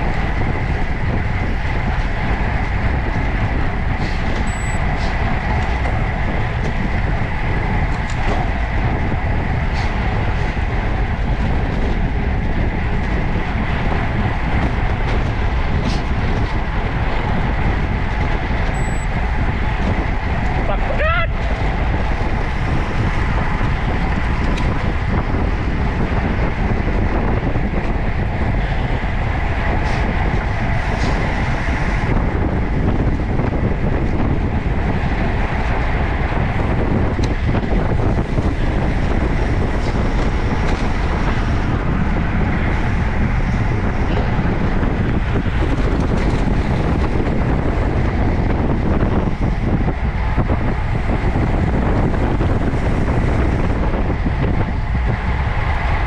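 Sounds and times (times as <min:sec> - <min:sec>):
tyres rushing on road: 0:00.0 - 0:56.0
wind buffeting microphone: 0:00.0 - 0:56.0.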